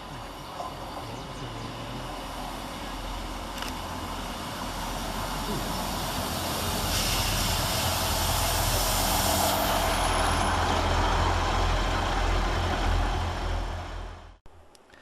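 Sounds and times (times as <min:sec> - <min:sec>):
diesel train engines droning: 0:00.0 - 0:14.4
train rushing noise: 0:00.0 - 0:14.4.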